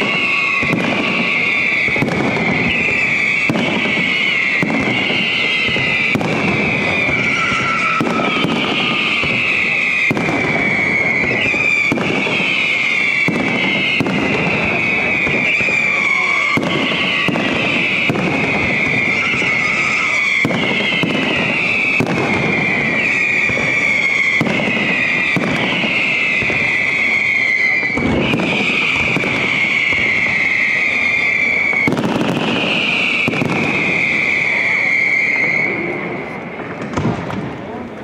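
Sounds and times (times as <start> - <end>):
falling firework whistles: 0.0 - 37.6
fireworks crackling and banging: 0.0 - 38.0.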